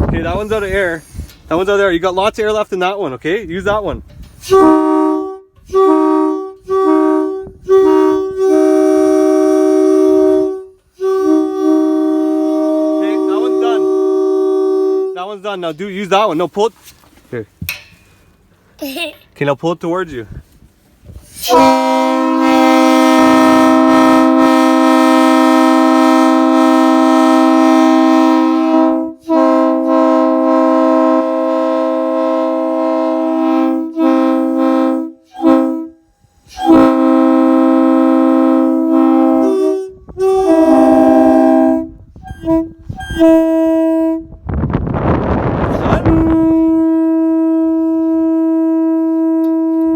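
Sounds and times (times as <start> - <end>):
train horn chords: 4.4 - 16.1, 21.3 - 49.9.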